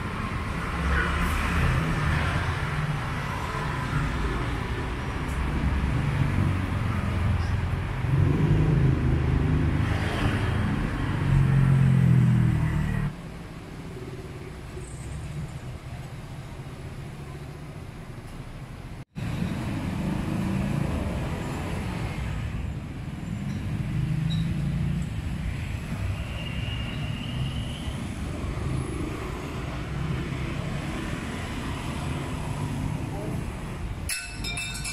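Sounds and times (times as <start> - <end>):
vehicle engines rumbling: 0.0 - 34.9.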